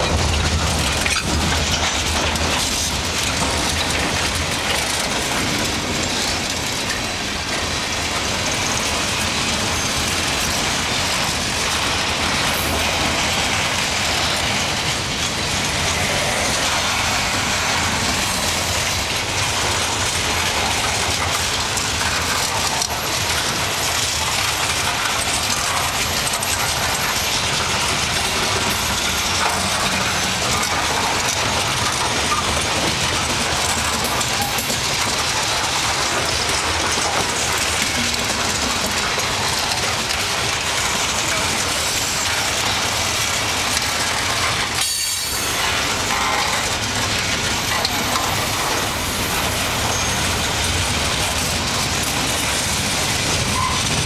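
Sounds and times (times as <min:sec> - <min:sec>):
freight train wheels rumbling: 0:00.0 - 0:54.0
wheels and couplings clattering: 0:00.0 - 0:54.0.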